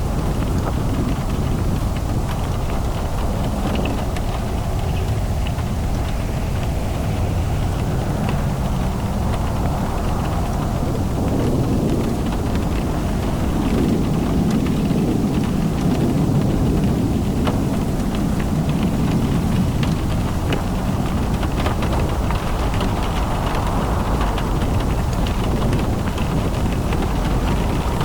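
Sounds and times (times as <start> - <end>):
tyres on wet road: 0.0 - 28.0
raindrop taps: 0.1 - 28.0.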